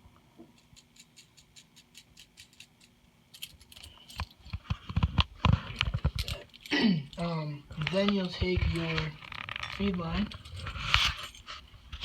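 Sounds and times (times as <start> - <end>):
metal parts clinking and rattling: 0.6 - 11.6.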